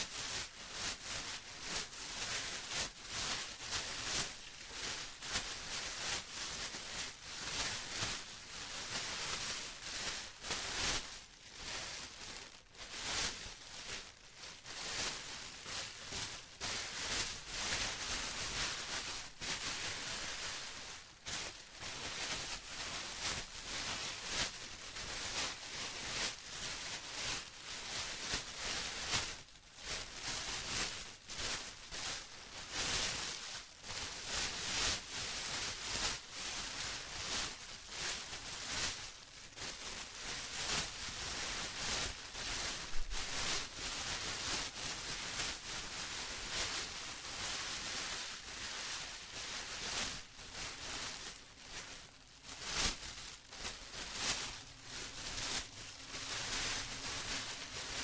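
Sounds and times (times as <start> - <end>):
plastic rustling and crinkling: 0.0 - 58.0.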